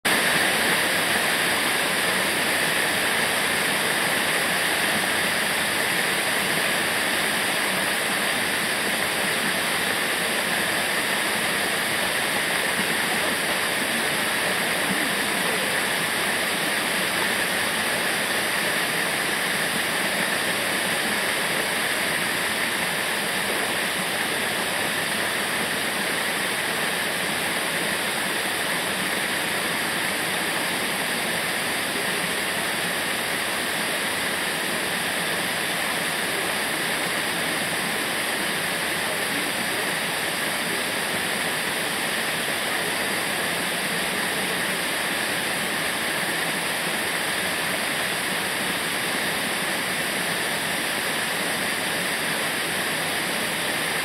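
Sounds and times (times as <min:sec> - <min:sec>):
waterfall roaring: 0:00.1 - 0:54.0.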